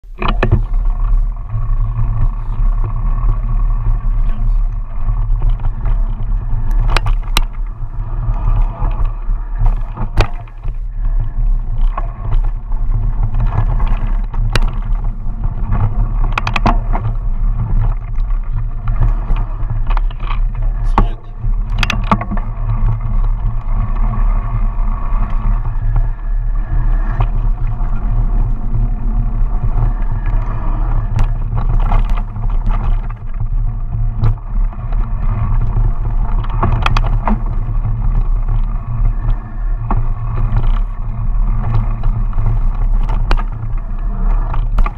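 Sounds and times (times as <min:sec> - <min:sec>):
bike knocks and rattles: 0:00.0 - 0:44.9
wind and vibration rumble: 0:00.0 - 0:44.9.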